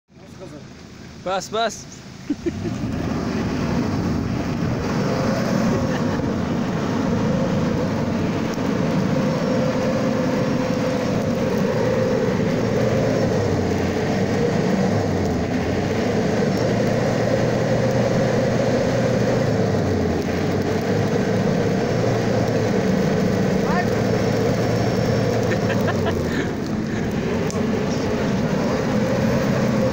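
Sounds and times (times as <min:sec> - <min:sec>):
truck engine revving: 0:02.3 - 0:29.9.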